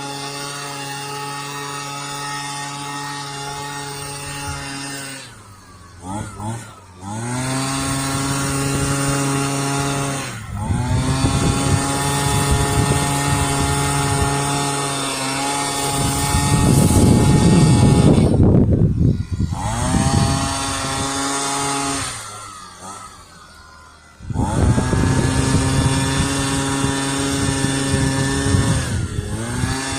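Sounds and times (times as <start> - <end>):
gas leaf blower running: 0.0 - 29.9.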